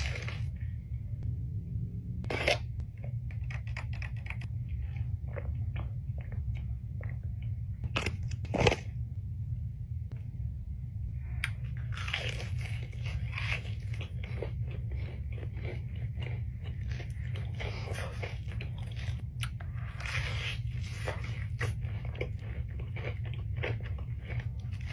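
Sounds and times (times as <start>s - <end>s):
crunchy chewing: 0.0s - 0.7s, 2.3s - 8.9s, 11.4s - 24.9s
low hum: 0.0s - 24.9s.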